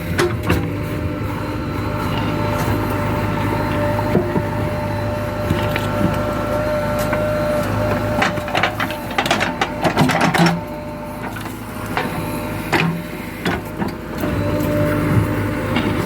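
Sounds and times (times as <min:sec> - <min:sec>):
backhoe engine running: 0:00.0 - 0:16.0.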